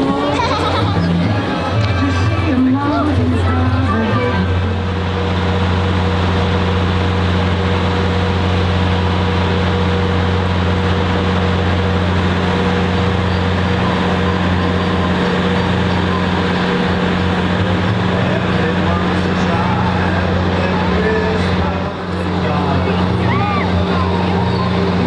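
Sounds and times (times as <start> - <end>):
train diesel engine idling: 0.0 - 25.0.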